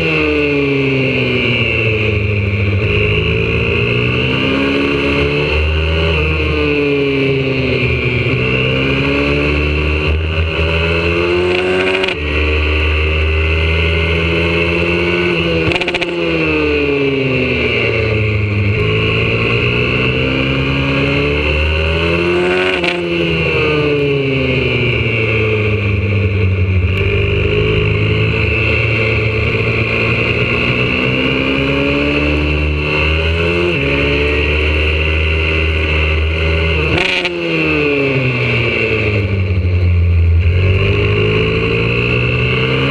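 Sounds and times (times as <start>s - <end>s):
pit bike engine revving: 0.0s - 42.9s
gear changes: 1.4s - 42.9s.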